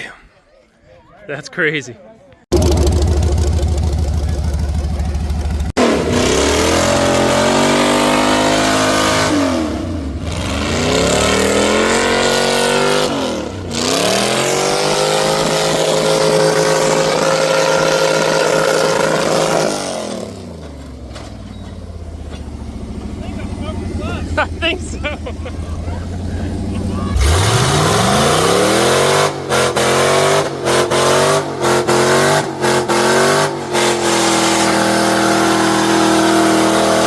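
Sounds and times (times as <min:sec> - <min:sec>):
truck engine accelerating: 0:02.5 - 0:37.0.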